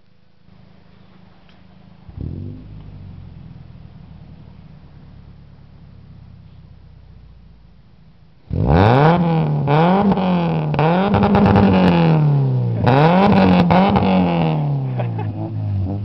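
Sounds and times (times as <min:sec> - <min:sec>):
car engine revving: 0:02.0 - 0:16.0.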